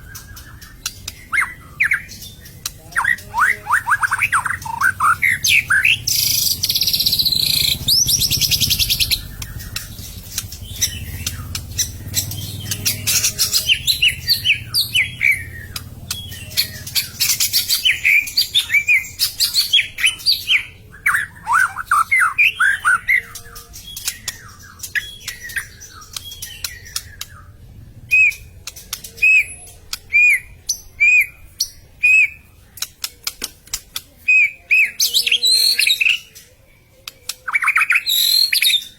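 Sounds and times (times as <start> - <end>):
bird singing with whistles and clicks: 0.0 - 38.9.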